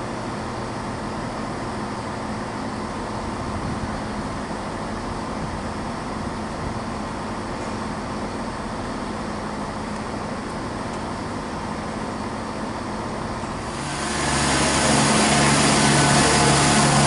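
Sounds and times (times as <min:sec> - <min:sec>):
diesel train engines droning: 0:00.0 - 0:17.0.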